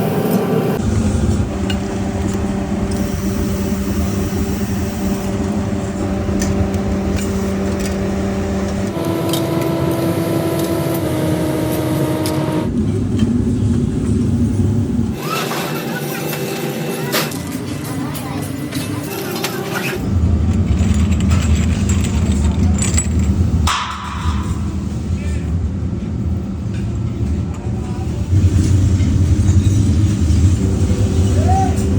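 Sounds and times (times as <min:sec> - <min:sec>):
factory machinery rumble and hum: 0:00.0 - 0:31.9.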